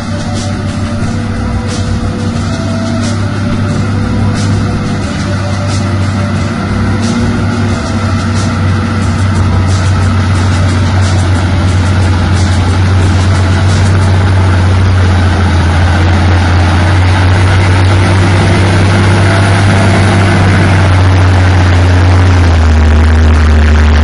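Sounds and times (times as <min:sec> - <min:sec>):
heavy vehicle engine droning: 0:00.0 - 0:24.0.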